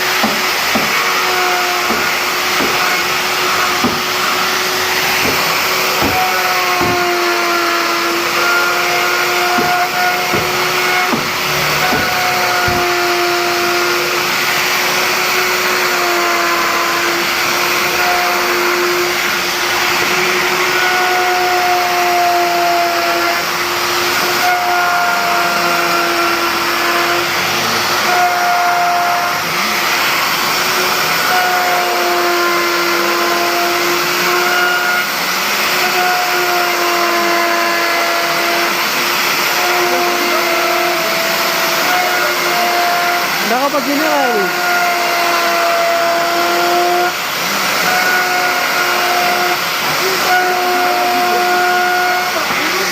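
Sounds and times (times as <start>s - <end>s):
power tool motor humming: 0.0s - 52.9s.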